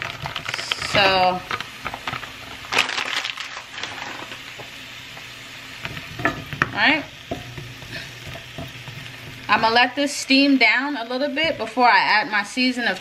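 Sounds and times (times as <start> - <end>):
sprouts sizzling in frying pan: 0.0 - 13.0.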